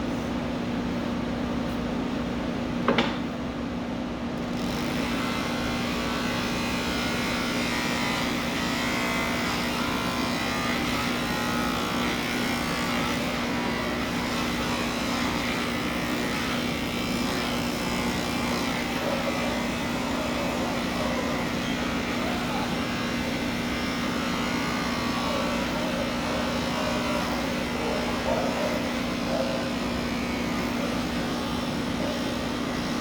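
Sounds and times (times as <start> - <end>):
electric clippers humming: 4.4 - 33.0.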